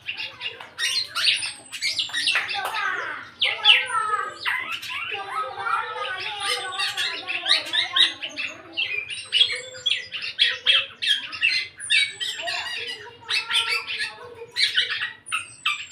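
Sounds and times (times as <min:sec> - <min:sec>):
bird harsh rasping calls: 0:00.0 - 0:15.9.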